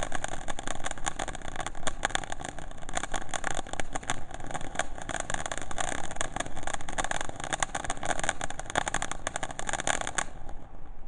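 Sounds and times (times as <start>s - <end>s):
firework fizzing and crackling: 0.0s - 11.0s.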